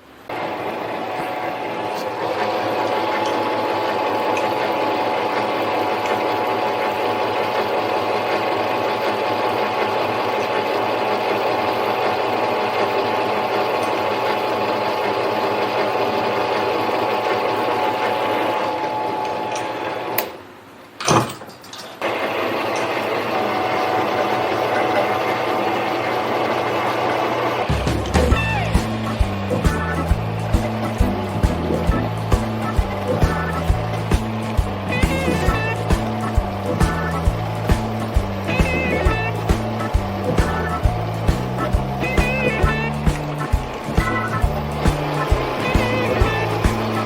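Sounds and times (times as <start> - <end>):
lathe motor and gear whine: 0.3 - 20.4, 22.0 - 47.0.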